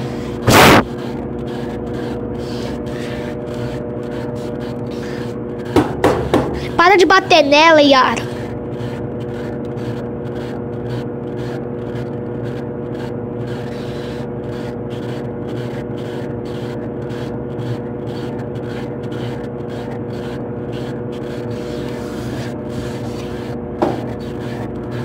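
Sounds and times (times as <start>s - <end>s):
washing machine spinning: 0.0s - 25.0s.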